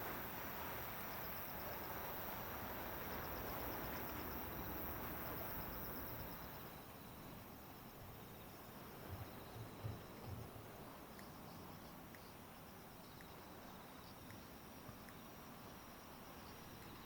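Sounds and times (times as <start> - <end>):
insects chirping in trills: 0.0 - 17.0
outdoor background noise: 0.0 - 17.0.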